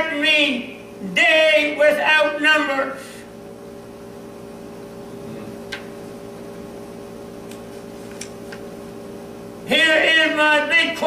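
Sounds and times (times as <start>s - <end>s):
steady room hum: 0.0s - 11.0s.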